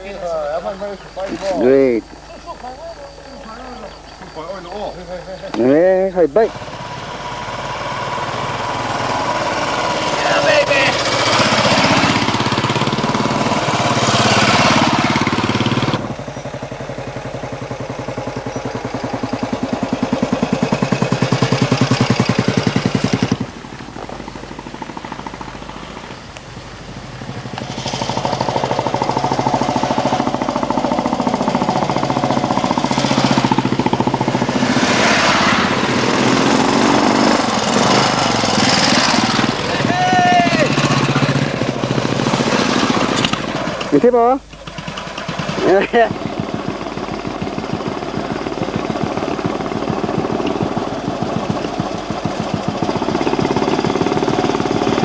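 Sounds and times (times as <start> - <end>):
motorcycles riding past: 0.0 - 55.0.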